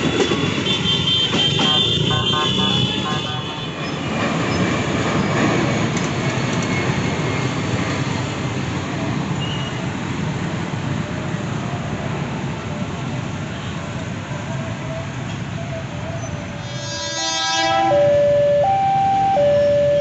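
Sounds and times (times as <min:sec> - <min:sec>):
electric train wheels rumbling on rail: 0:00.0 - 0:20.0.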